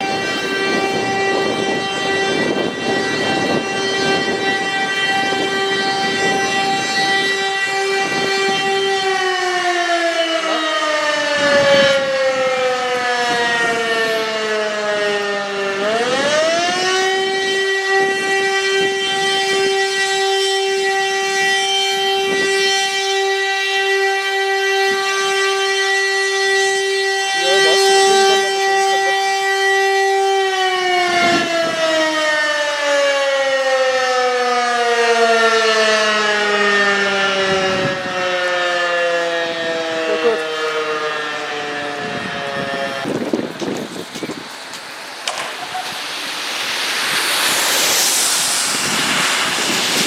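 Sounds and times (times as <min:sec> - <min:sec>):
motor-driven siren wailing: 0:00.0 - 0:50.0.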